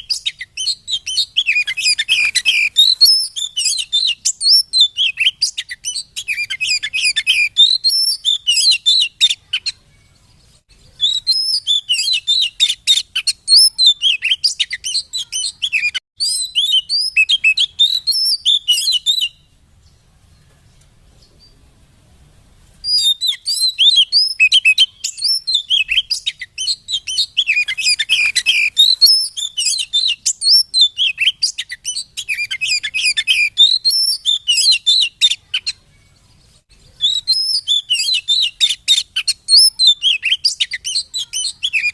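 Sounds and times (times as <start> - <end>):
bird singing chirps and whistles: 0.0 - 20.0, 22.8 - 35.8, 36.4 - 41.9.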